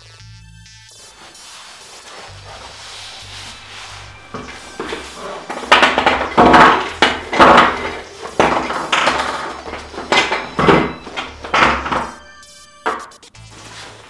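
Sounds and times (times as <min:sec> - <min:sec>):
foam blocks squeaking: 0:00.9 - 0:14.0.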